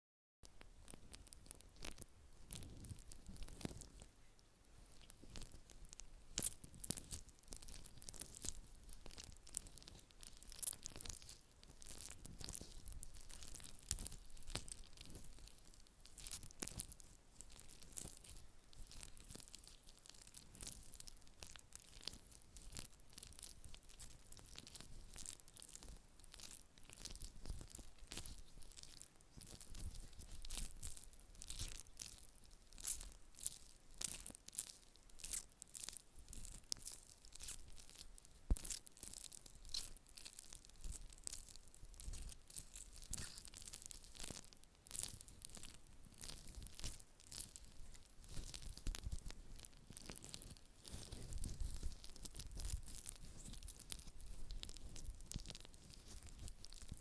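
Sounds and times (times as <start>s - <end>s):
small scratchy crackles and clicks: 0.4s - 57.0s.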